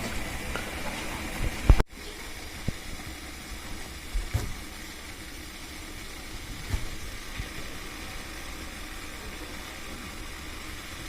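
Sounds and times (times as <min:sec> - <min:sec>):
steamer hissing: 0:00.0 - 0:11.0
water boiling: 0:00.0 - 0:11.0.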